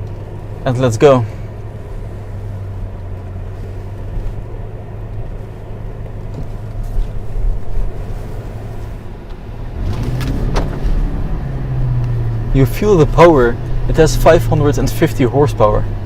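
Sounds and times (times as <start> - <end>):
car engine driving off: 0.0 - 16.0.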